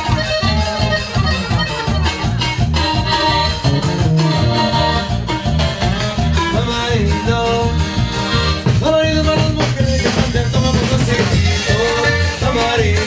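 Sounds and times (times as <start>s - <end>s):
band playing latin dance music: 0.0s - 13.0s.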